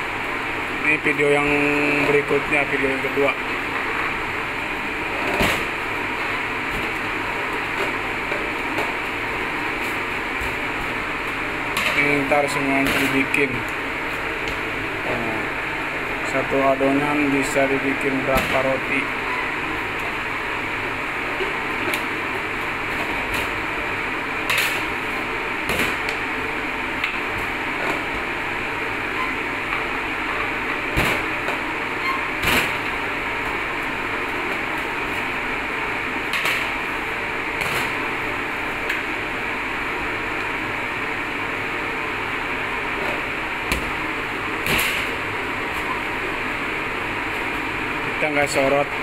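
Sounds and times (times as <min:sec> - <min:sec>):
fan or air conditioner noise: 0:00.0 - 0:49.0
machine hum and hiss: 0:00.0 - 0:49.0.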